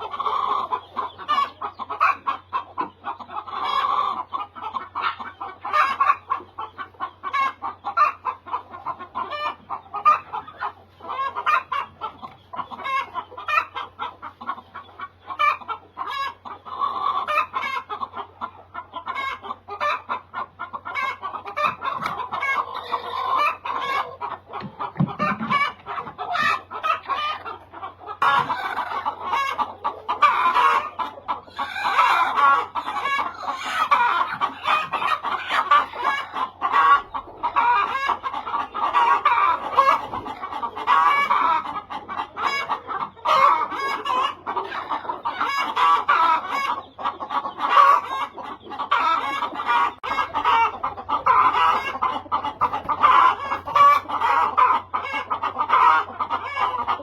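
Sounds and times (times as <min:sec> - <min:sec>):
flock of hens clucking: 0:00.0 - 0:57.0.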